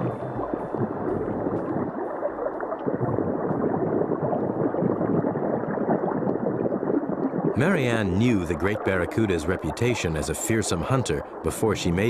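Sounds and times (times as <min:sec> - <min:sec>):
gurgling churning water: 0:00.0 - 0:12.0.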